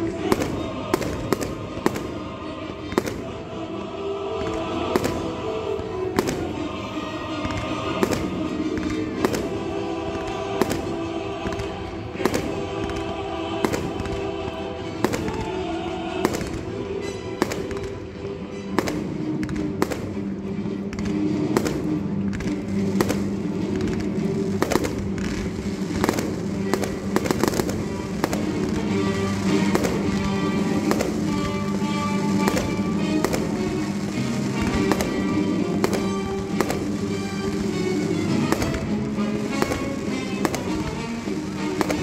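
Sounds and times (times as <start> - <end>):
fireworks bangs and cracks: 0.0 - 42.0
music playing: 0.0 - 42.0.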